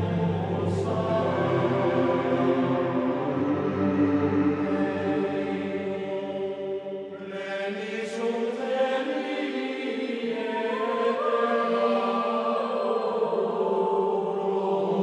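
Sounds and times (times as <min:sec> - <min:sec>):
slow droning background music: 0:00.0 - 0:09.0, 0:09.6 - 0:15.0.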